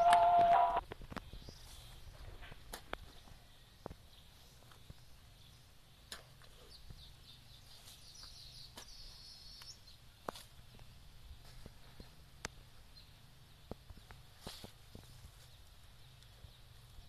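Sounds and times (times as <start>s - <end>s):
faint rural ambience: 0.0s - 17.0s.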